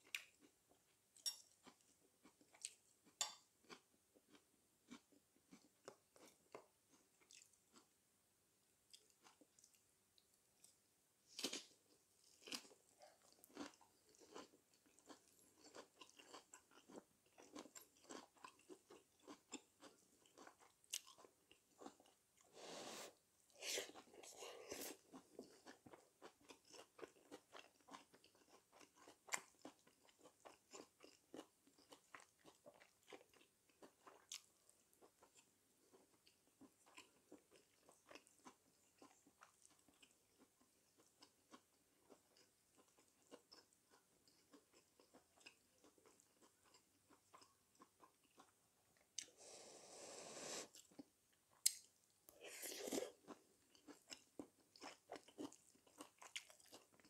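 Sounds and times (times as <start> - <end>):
person chewing food: 0.0 - 8.0, 8.8 - 57.0.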